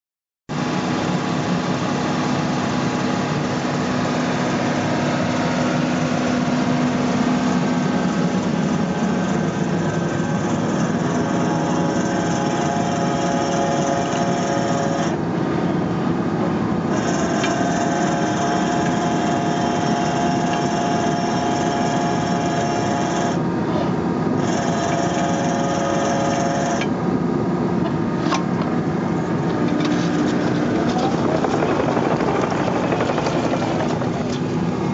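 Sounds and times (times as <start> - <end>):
excavator engine running: 0.5 - 34.9
hydraulic drill whine: 0.6 - 15.7, 16.8 - 23.4, 24.3 - 27.0, 29.2 - 34.9.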